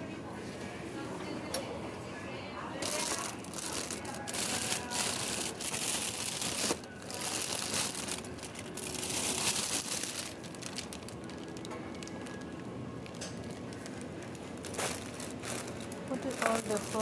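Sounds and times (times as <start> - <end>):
plastic packaging crinkling: 2.8 - 17.0.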